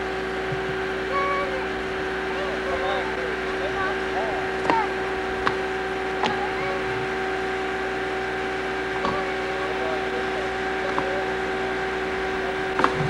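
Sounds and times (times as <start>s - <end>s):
camcorder hum and hiss: 0.0s - 13.0s.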